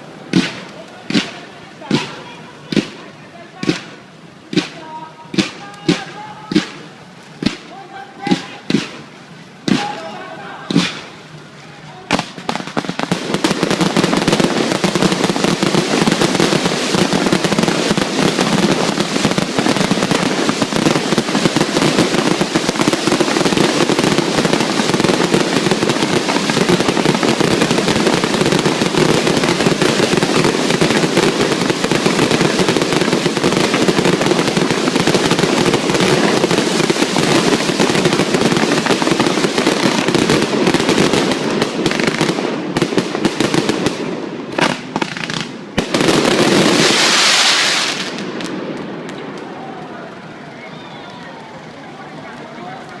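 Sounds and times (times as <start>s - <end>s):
fireworks bangs and crackle: 0.0s - 53.0s.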